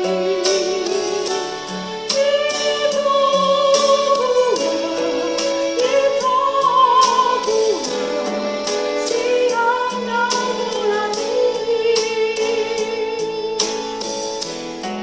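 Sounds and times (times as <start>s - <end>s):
instrumental backing music: 0.0s - 15.0s
woman singing into a microphone: 0.0s - 15.0s.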